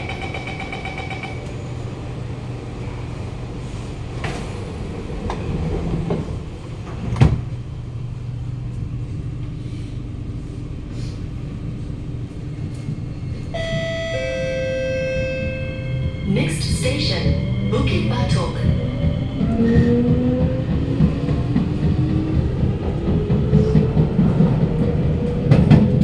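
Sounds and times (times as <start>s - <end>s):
metro train hum: 0.0s - 26.0s.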